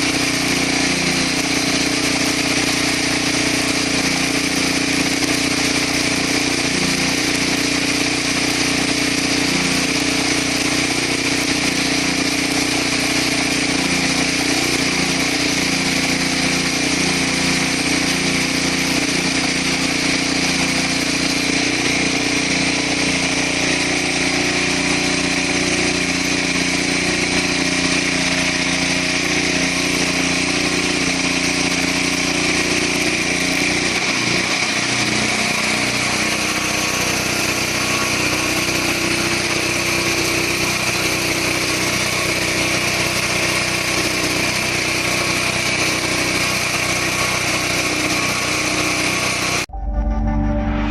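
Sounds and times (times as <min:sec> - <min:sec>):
welding generator engine drone: 0:00.0 - 0:49.8.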